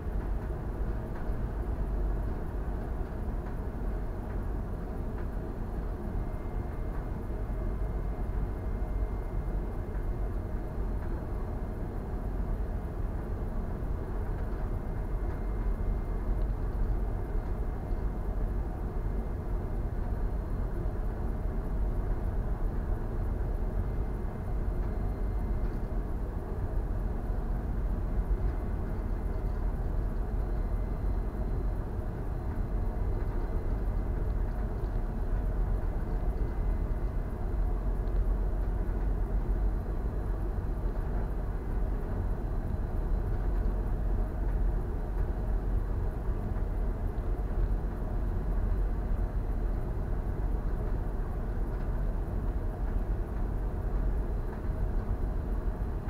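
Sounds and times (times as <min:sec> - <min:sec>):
faint high whine: 0:03.6 - 0:56.0.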